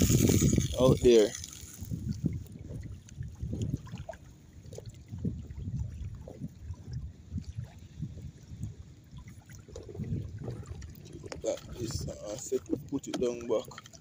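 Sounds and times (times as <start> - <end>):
water lapping against rocks: 0.0 - 14.0.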